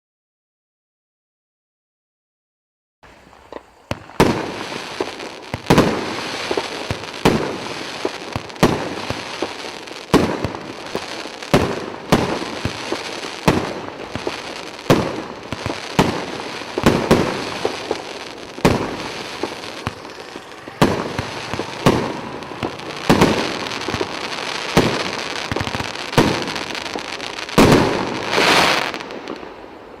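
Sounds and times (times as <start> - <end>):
firework crackling: 3.0 - 30.0
firework shot bangs: 3.9 - 29.6.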